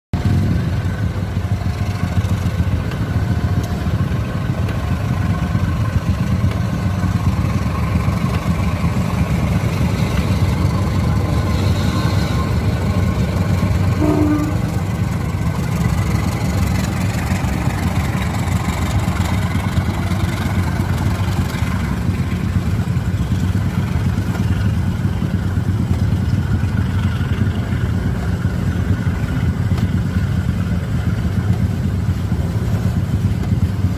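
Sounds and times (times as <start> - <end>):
locomotive engine droning: 0.2 - 33.9.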